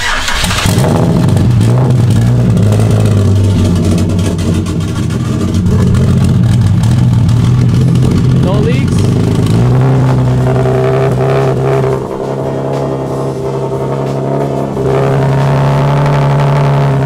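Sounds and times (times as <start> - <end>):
car engine running loud: 0.0 - 17.0.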